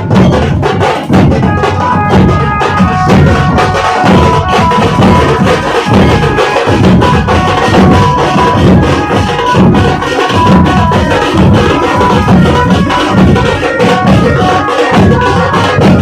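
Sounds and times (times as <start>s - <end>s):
dhol drums beating fast: 0.0s - 16.0s
high ringing notes: 1.4s - 16.0s.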